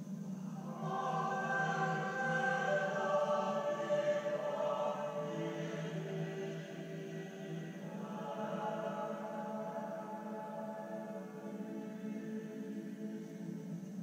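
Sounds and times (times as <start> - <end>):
choir chanting through tv speaker: 0.0 - 14.0
steady low drone: 0.0 - 14.0.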